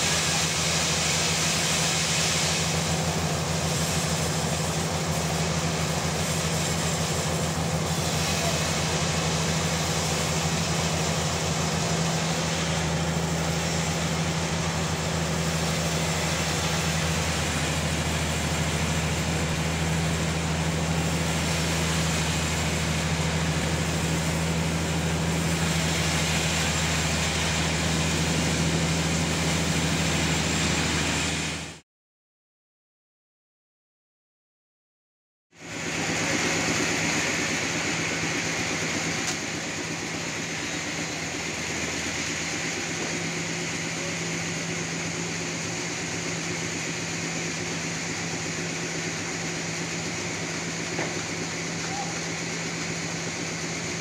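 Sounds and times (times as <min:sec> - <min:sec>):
sawmill machinery running: 0:00.0 - 0:31.8, 0:35.6 - 0:54.0.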